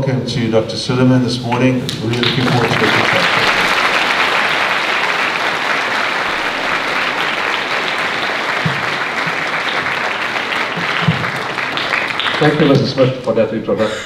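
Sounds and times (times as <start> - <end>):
audience applauding: 1.6 - 13.3.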